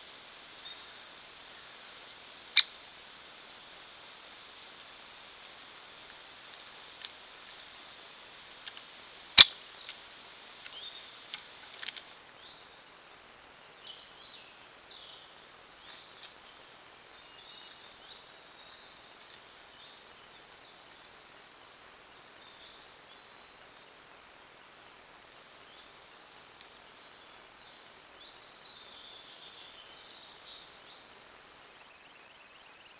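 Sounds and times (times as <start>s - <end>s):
steady hiss: 0.0s - 32.9s.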